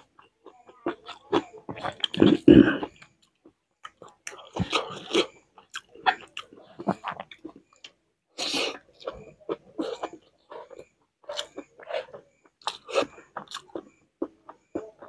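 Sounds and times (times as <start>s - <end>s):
chewing with wet mouth clicks: 0.0s - 15.0s.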